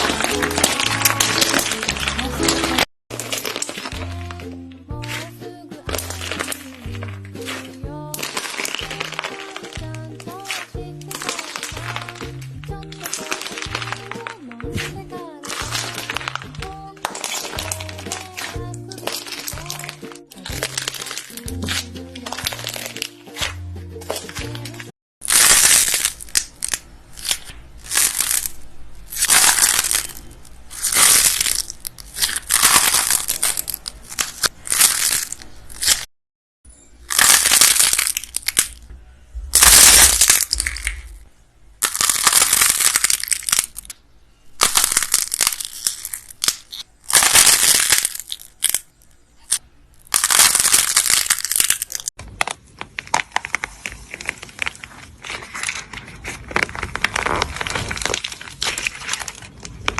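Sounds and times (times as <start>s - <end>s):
brittle crunchy crackling: 0.0s - 5.3s, 5.9s - 36.1s, 37.0s - 38.9s, 39.5s - 41.2s, 41.8s - 44.0s, 44.6s - 59.9s.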